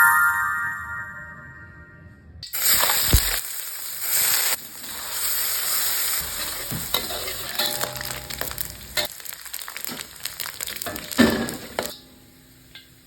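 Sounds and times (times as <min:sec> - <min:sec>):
food sizzling in hot oil: 0:02.4 - 0:13.0.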